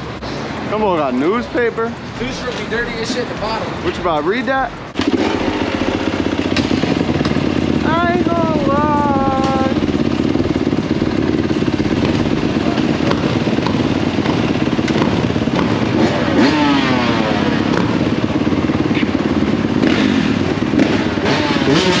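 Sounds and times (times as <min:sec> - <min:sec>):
dirt bike engines running: 0:00.0 - 0:22.0.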